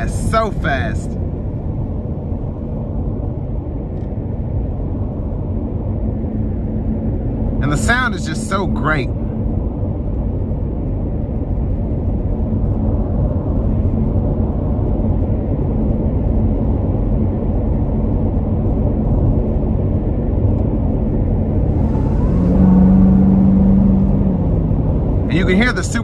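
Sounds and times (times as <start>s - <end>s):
car engine from inside cabin: 0.0s - 26.0s
road and tyre noise: 0.0s - 26.0s.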